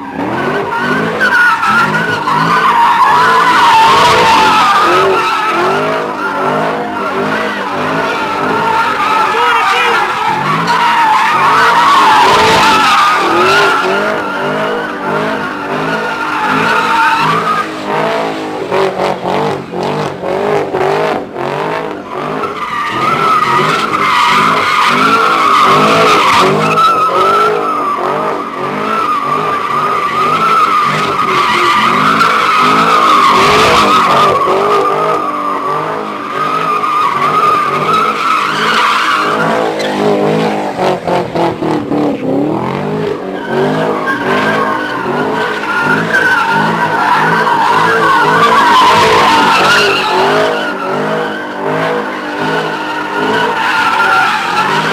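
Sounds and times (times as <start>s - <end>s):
car engine revving: 0.0s - 54.9s
car tyres squealing: 0.0s - 54.9s.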